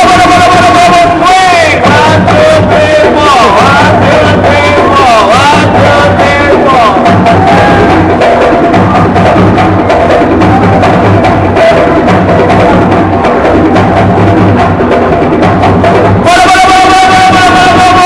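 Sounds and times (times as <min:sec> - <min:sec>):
dance music with drum beat: 0:00.0 - 0:18.0.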